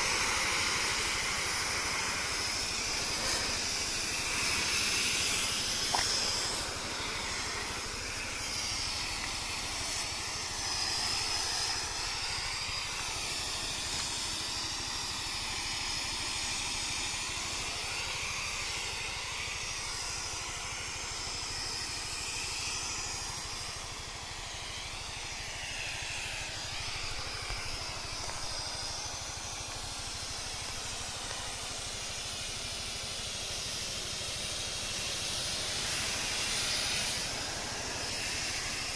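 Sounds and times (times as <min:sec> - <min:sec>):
diesel pump engine running: 0:00.0 - 0:38.9
spray gun hissing: 0:00.0 - 0:38.9.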